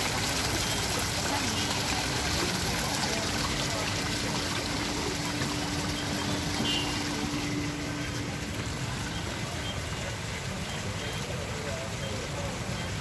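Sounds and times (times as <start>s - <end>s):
fountain jets splashing: 0.0s - 13.0s.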